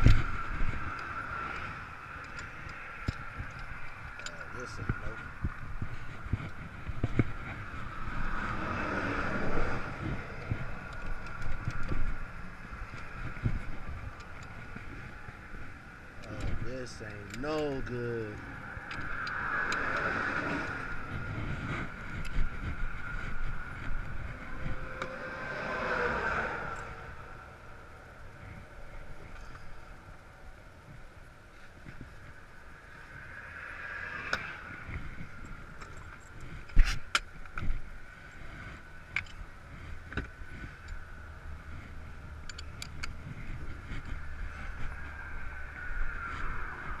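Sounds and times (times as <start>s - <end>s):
road traffic passing: 0.0s - 47.0s
steady hum: 0.0s - 47.0s.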